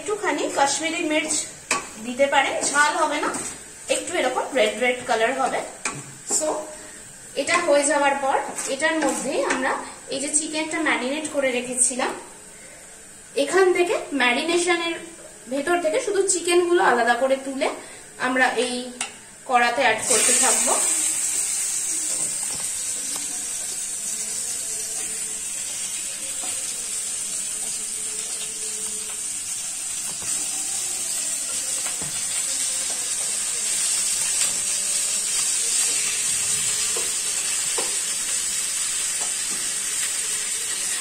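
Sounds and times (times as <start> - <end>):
food sizzling in oil: 0.0 - 41.0.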